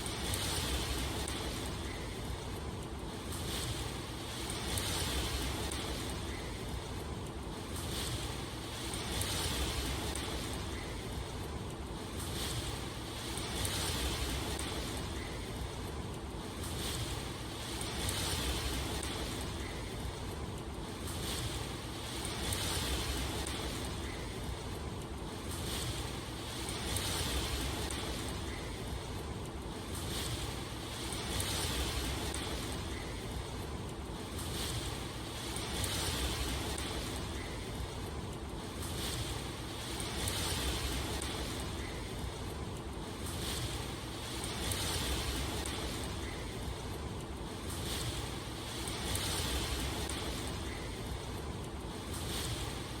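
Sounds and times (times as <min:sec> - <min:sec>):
hiss of rainfall: 0:00.0 - 0:53.0.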